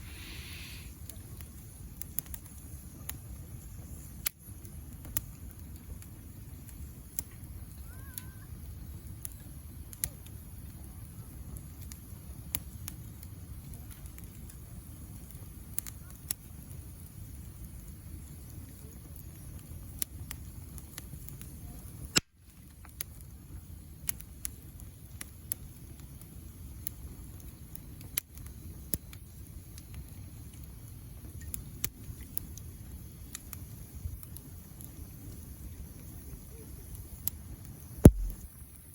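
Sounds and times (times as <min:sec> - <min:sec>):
campfire crackling: 0:00.0 - 0:38.9
low rumble of burning: 0:00.0 - 0:38.9.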